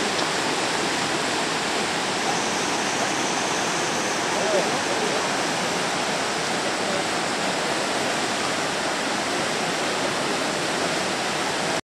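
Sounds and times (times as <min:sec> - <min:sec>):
river rushing over rapids: 0:00.0 - 0:11.8.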